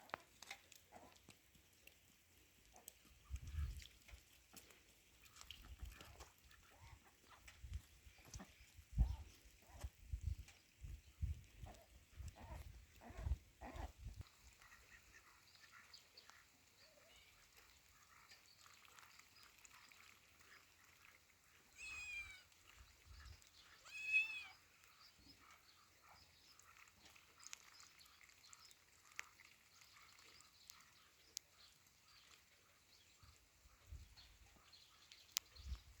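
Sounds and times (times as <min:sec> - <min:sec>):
faint farmyard background: 0:00.0 - 0:36.0.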